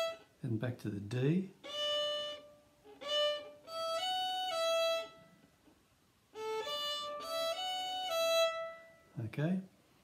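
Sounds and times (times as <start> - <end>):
violin bowed slowly: 0.0 - 9.6.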